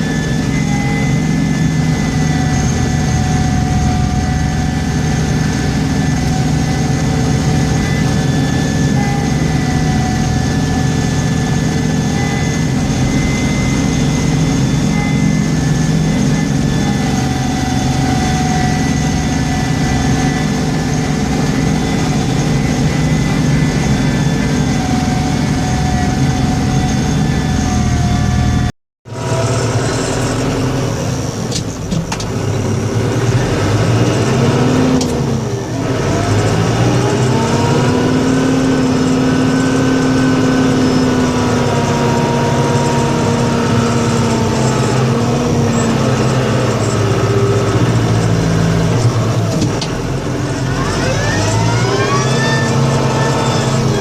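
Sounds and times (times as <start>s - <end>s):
snow plow engine running: 0.0s - 54.0s.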